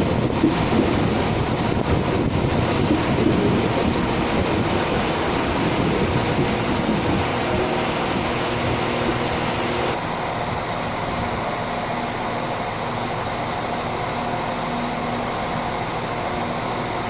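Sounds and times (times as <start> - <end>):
diesel railcar engine hum: 0.0 - 17.0.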